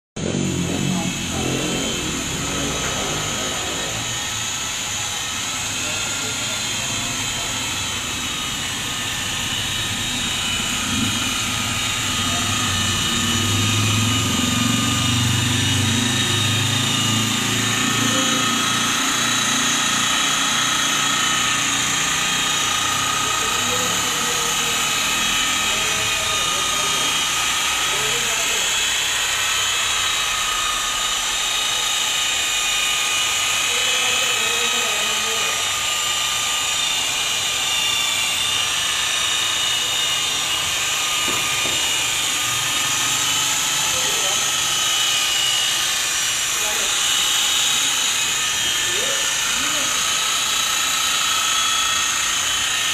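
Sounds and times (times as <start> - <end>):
electric polisher motor whine: 0.2 - 52.9.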